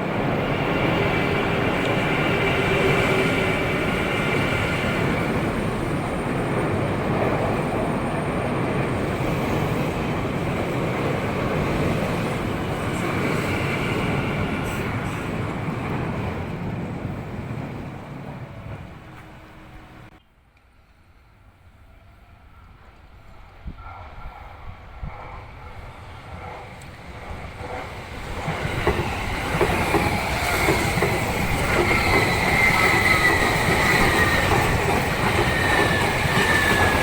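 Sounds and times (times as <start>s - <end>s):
wheels rumbling on rail: 0.0s - 20.2s, 21.0s - 37.0s
high train whine: 0.0s - 37.0s.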